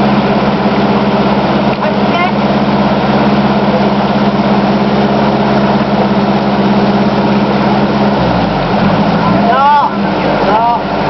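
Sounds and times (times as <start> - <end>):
car engine idling: 0.0 - 11.0
stream rushing: 0.0 - 11.0.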